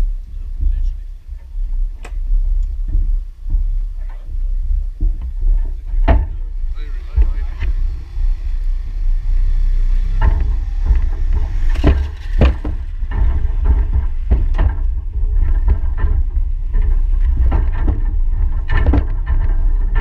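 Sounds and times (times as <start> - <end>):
heavy low rumble: 0.0 - 20.0
scooter pushed across planks: 0.0 - 20.0
wooden planks knocking underfoot: 0.0 - 20.0.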